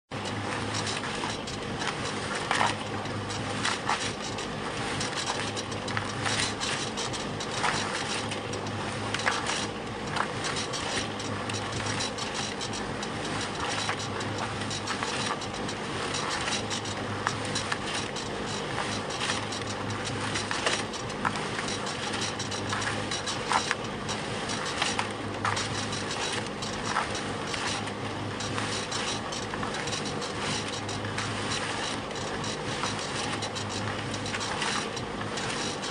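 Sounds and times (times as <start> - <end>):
concrete mixer motor hum: 0.1 - 35.9.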